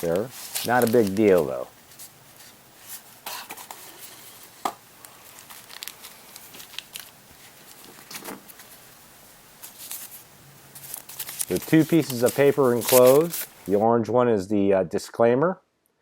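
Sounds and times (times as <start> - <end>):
packaging rustling: 0.0 - 8.9, 9.6 - 13.8.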